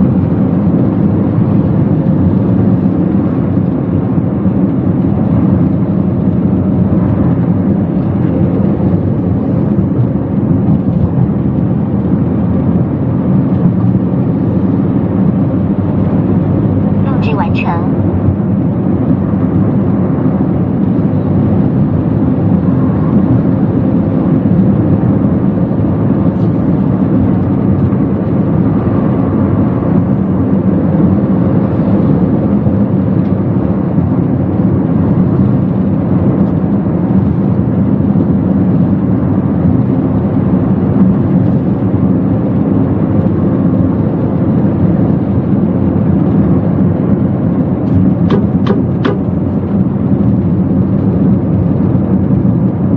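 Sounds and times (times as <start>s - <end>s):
car engine and tyres rumbling: 0.0s - 52.9s.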